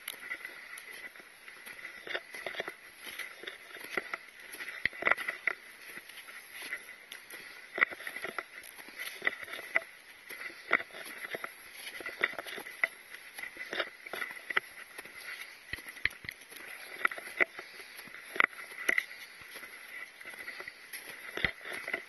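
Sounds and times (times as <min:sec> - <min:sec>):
footsteps in snow: 0:00.0 - 0:22.0.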